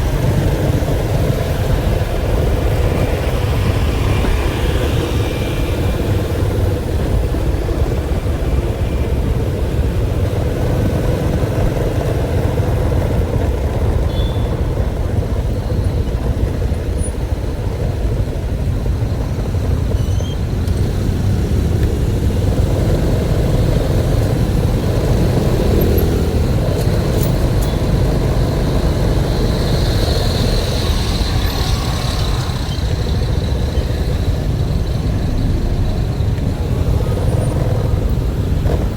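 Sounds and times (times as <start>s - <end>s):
moving vehicle rumble: 0.0s - 38.9s.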